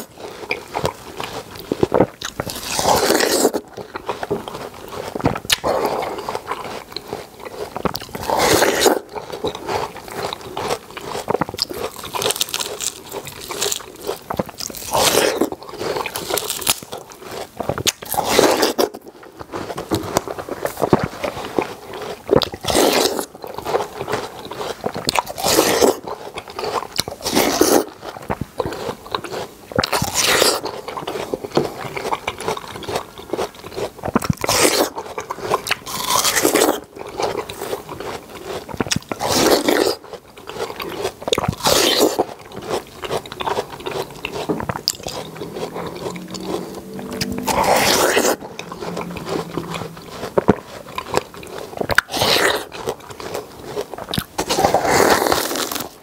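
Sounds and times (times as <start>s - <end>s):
biting into watermelon: 0.0s - 56.0s
chewing: 0.0s - 56.0s.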